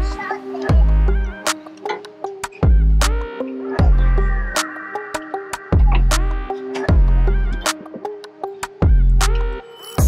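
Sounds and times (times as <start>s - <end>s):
electronic music with a beat: 0.0s - 10.0s.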